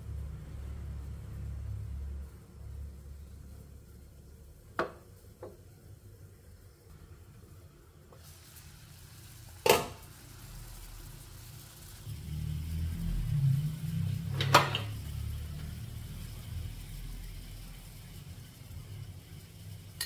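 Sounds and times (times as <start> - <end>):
water boiling in a pot: 0.0 - 20.0.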